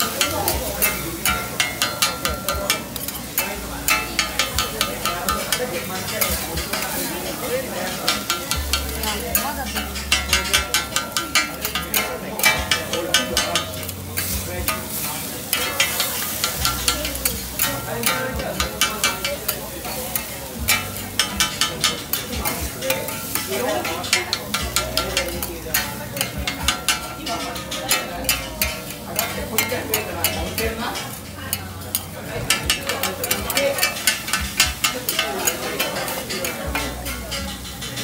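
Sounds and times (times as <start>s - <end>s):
food sizzling: 0.0s - 38.0s
metal spatulas chopping on griddle: 0.0s - 38.0s.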